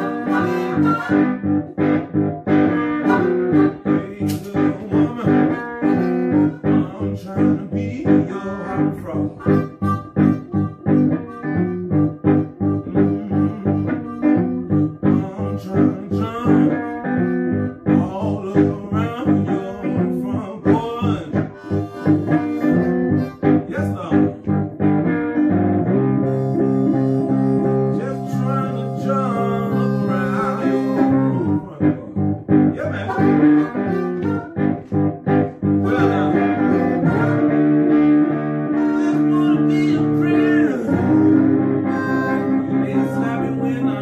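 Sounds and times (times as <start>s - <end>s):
amplified blues harmonica: 0.0s - 44.0s
electric guitar playing blues: 0.0s - 44.0s.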